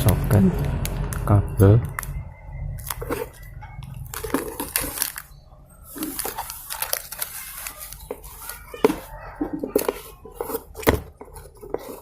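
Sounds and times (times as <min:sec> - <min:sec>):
plastic packaging crinkling: 0:00.6 - 0:12.0.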